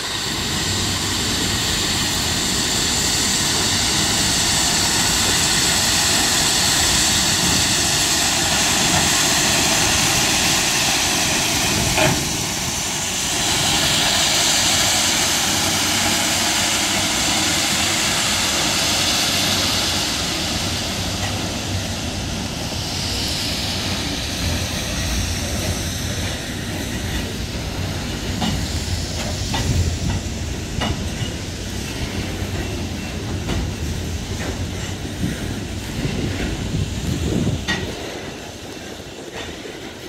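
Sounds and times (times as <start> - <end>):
train wheels rushing on rails: 0.0 - 40.0.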